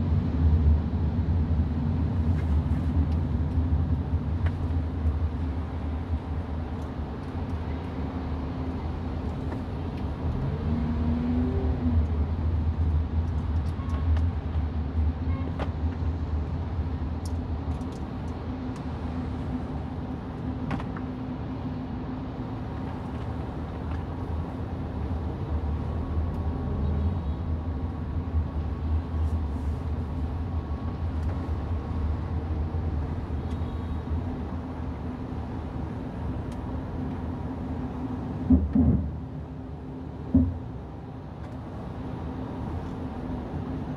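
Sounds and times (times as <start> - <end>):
car driving on wet road: 0.4 - 15.0, 15.6 - 43.9.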